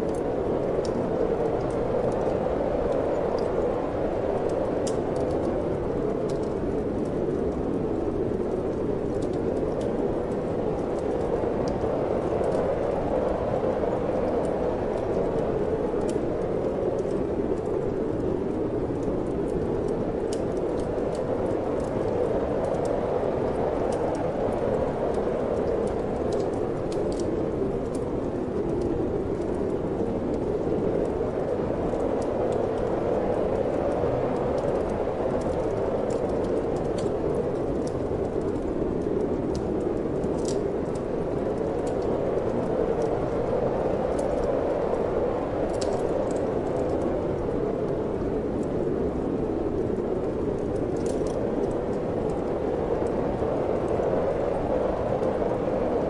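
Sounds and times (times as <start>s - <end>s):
wind blowing: 0.0s - 56.0s
wood fire crackling: 0.0s - 56.0s.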